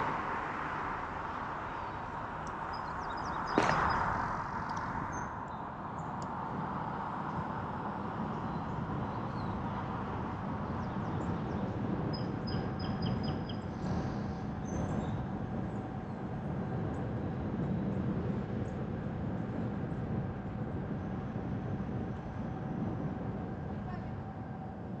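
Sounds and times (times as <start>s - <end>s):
car road noise: 0.0s - 20.9s.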